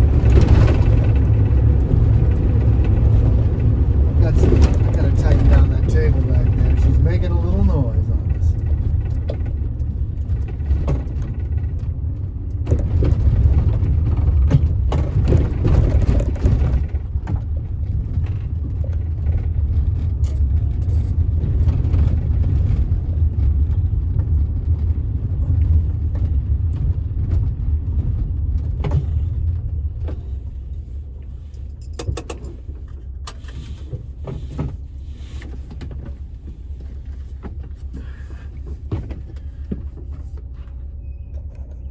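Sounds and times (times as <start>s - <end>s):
rattles and knocks: 0.0s - 41.9s
van engine and road rumble: 0.0s - 41.9s.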